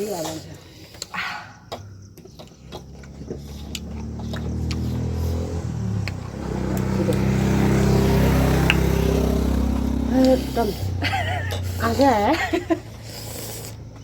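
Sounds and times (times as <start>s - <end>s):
vehicle engine running: 2.0s - 14.0s.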